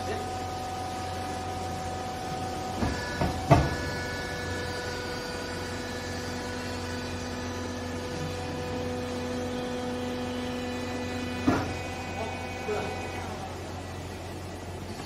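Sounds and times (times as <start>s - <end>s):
hydraulic pump motor humming: 0.0s - 15.0s.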